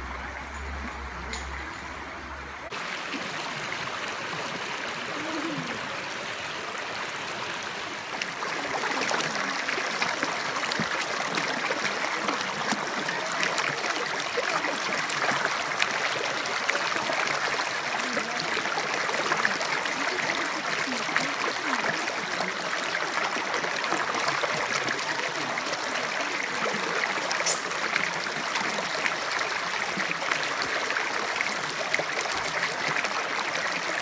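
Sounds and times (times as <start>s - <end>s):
stream water rushing over rocks: 0.0s - 34.0s.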